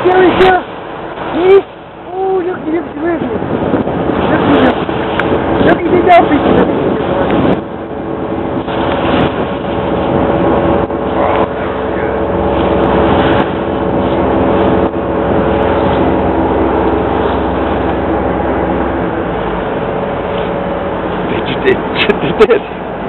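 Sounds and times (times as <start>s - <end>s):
ferry engine droning: 0.0s - 23.0s
steady rushing noise: 0.0s - 23.0s.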